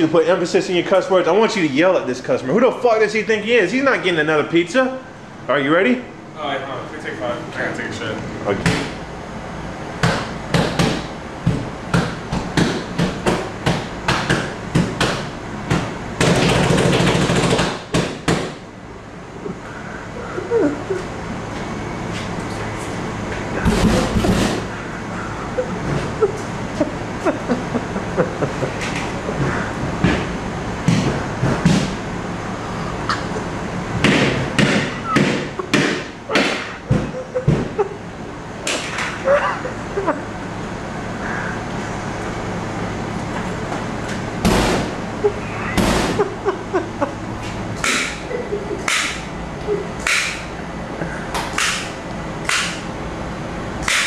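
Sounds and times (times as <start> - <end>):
steady background noise: 0.0 - 54.0.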